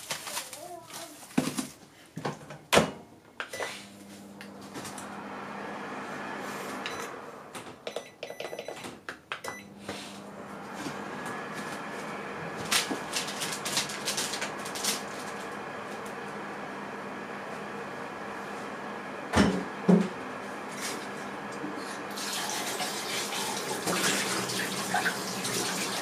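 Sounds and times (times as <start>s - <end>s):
microwave oven humming: 2.2s - 26.0s.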